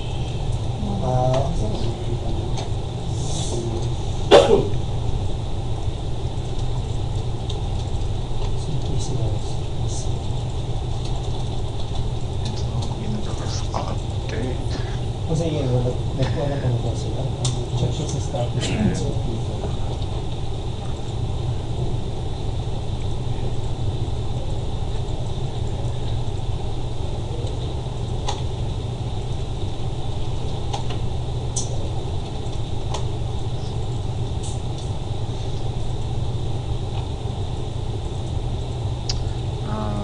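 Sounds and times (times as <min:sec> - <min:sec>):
low rumbling noise: 0:00.0 - 0:40.0.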